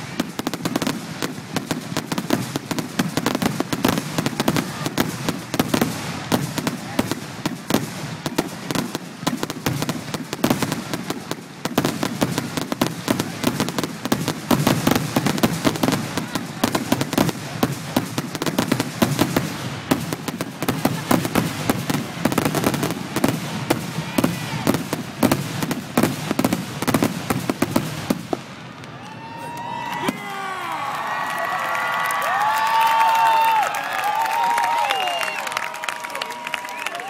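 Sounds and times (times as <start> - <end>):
fireworks bangs and crackling: 0.0 - 30.4.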